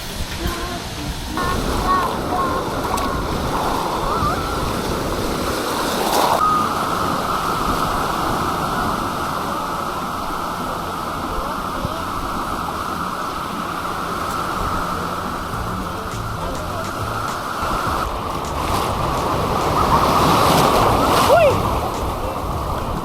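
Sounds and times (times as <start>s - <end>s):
ocean surf breaking: 0.0s - 23.0s
wind: 0.0s - 23.0s.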